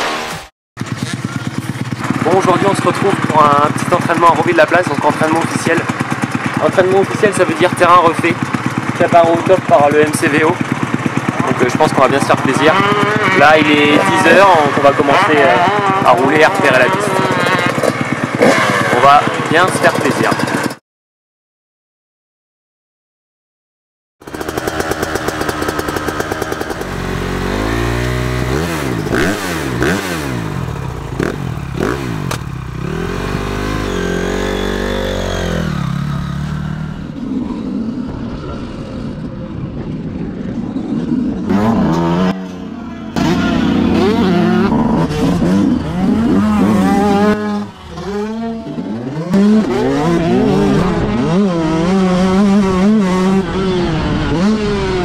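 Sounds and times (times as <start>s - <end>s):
two-stroke motorbike engine revving: 0.0s - 20.8s, 24.2s - 38.7s, 41.0s - 55.0s.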